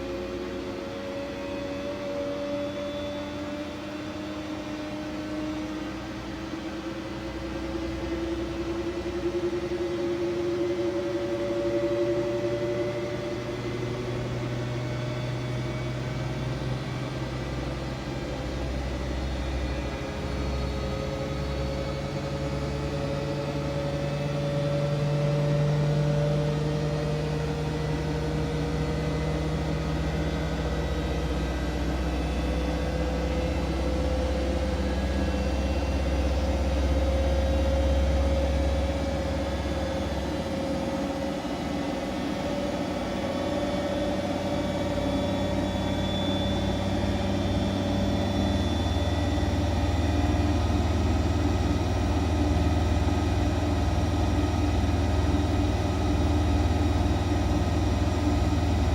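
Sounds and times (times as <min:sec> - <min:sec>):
washing machine motor whine: 0:00.0 - 0:58.9
low hum: 0:06.8 - 0:58.9.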